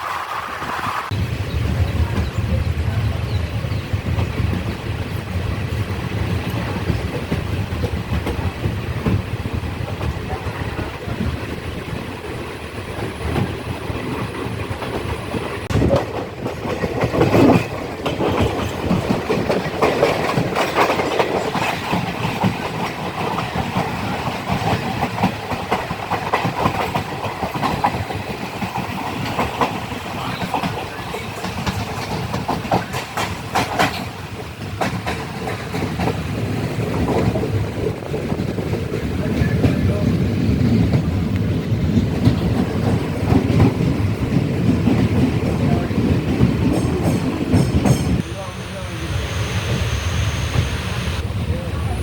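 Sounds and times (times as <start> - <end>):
wheels clicking over rail joints: 0.0 - 48.9
train rumbling along track: 0.0 - 52.0.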